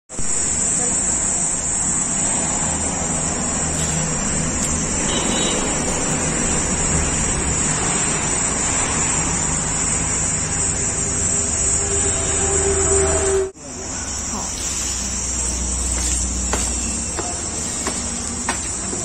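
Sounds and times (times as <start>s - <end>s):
constant high hiss: 0.1s - 12.3s, 13.5s - 19.0s
highway traffic rumble: 0.1s - 19.0s.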